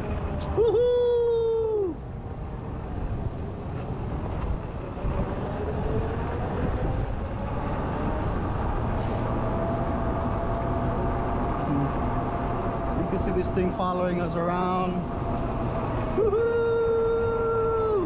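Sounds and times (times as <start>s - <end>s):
rumble of tyres on concrete: 0.0s - 18.0s.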